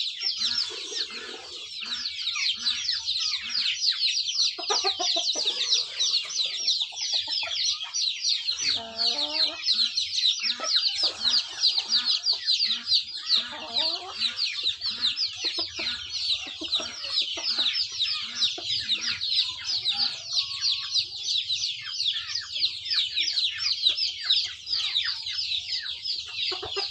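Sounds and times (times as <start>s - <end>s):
chickens clucking: 0.0s - 26.9s
chicks peeping: 0.0s - 26.9s.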